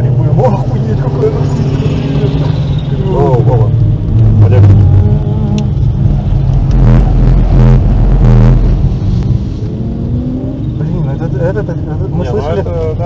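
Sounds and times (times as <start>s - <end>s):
car engine accelerating: 0.0s - 13.0s
road and tyre noise: 0.0s - 13.0s.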